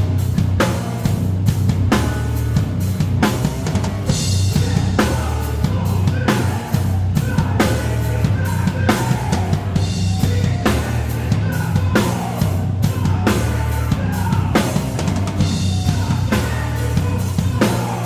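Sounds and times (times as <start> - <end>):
bass line: 0.0 - 18.0
drum kit played hard: 0.0 - 18.0.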